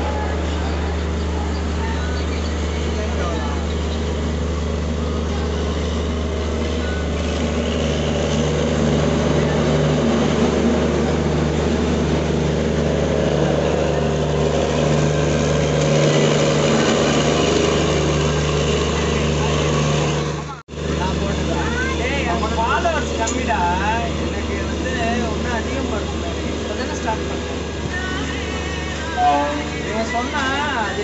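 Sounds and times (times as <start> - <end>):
train engine drone: 0.0 - 31.0
train rolling noise: 0.0 - 31.0.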